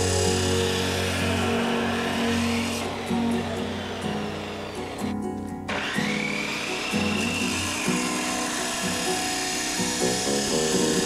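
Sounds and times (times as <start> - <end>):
abrasive wheel grinding metal: 0.0 - 11.0
background music: 0.0 - 11.0
chop saw motor whine: 0.0 - 11.0.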